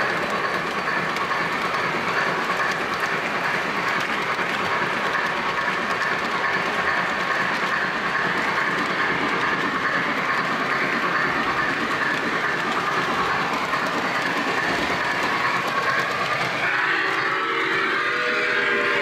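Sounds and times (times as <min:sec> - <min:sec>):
model train wheels clattering on rails: 0:00.0 - 0:18.0.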